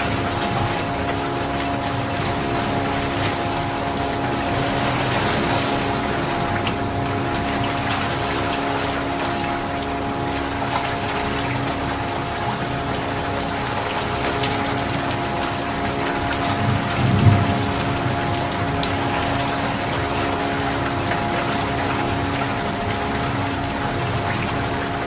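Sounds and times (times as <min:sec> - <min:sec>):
constant low hum: 0:00.0 - 0:25.0
rain falling: 0:00.0 - 0:25.0.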